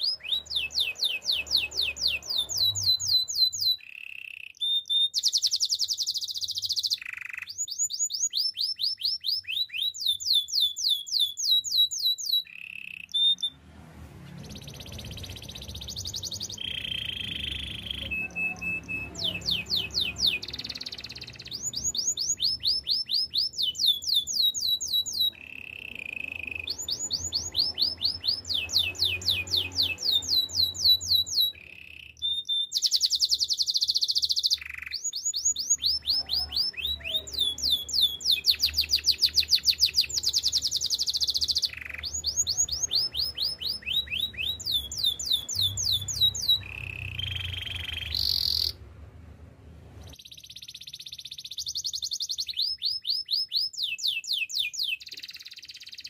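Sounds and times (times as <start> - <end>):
canary singing: 0.0 - 13.6, 14.3 - 49.1, 50.0 - 56.0.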